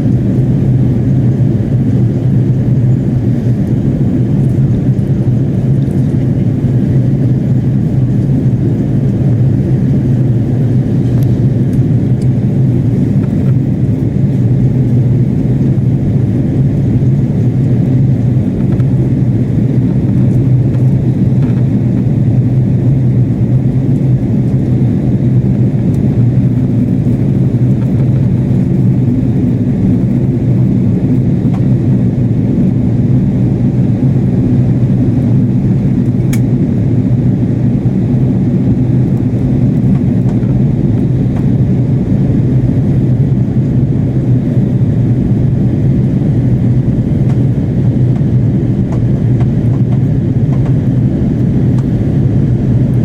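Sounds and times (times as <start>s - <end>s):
jet engine drone in cabin: 0.0s - 53.0s.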